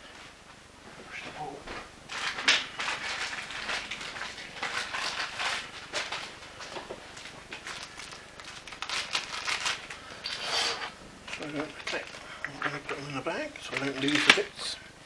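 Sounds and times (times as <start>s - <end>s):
rustling of handled things: 0.0s - 14.8s.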